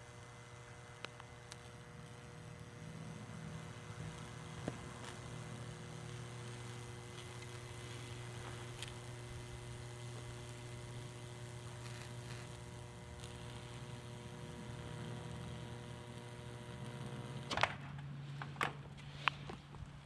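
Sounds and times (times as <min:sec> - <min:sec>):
transformer humming: 0:00.0 - 0:19.8.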